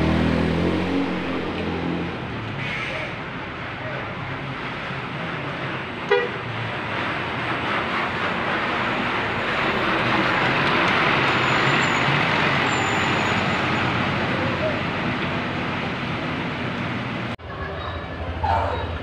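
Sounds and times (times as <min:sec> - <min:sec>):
coach diesel engine passing: 0:00.0 - 0:19.0.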